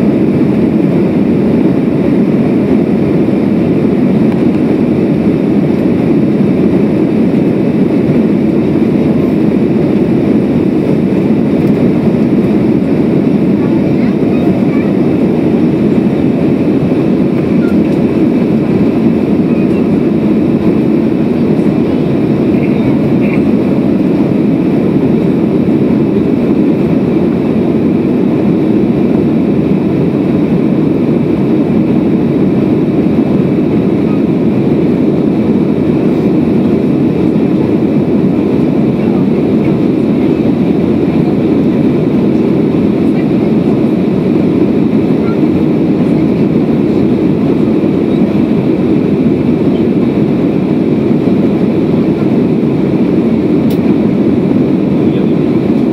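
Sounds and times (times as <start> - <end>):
jet engine cabin rush: 0.0 - 55.9.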